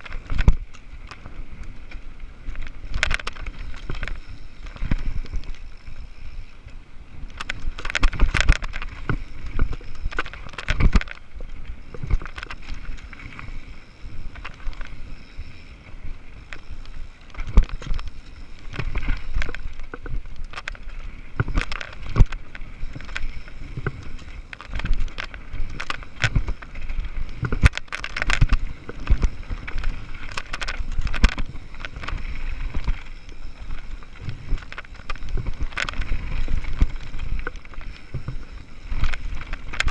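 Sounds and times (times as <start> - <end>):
bike rattling over bumps: 0.0 - 39.9.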